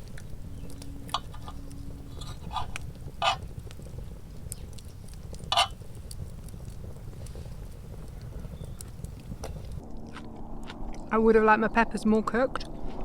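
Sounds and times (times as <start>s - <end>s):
chewing: 0.0s - 10.8s
steady low rumble: 0.0s - 13.0s.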